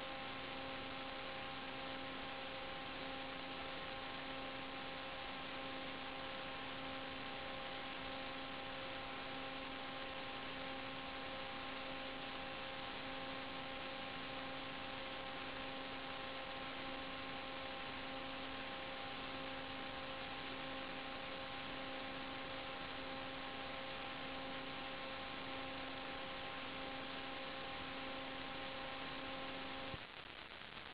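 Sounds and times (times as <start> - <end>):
electrical hum: 0.0 - 30.9.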